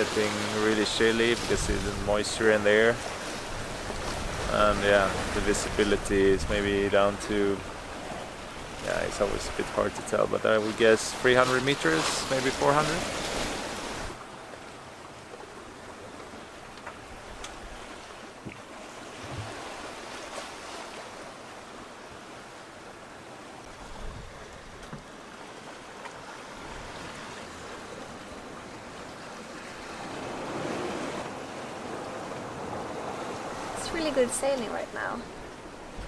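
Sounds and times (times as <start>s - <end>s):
water rushing along a hull: 0.0s - 36.0s.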